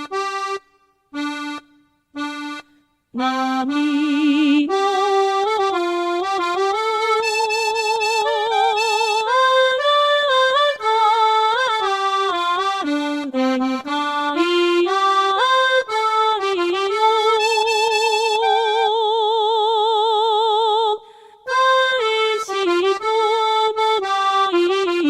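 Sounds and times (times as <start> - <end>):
accordion melody: 0.0 - 19.4, 21.5 - 25.0.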